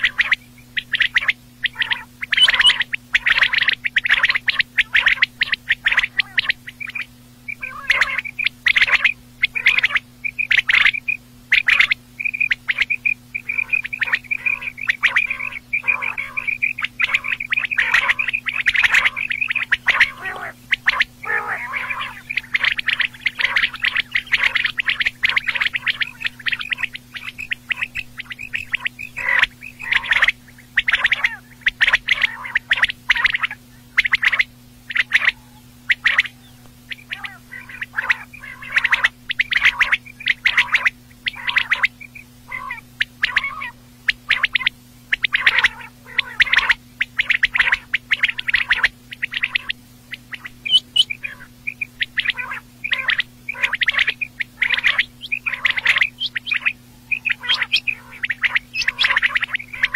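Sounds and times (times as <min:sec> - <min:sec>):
faint low hum: 0:00.0 - 0:59.9
quail calling: 0:00.0 - 0:59.9.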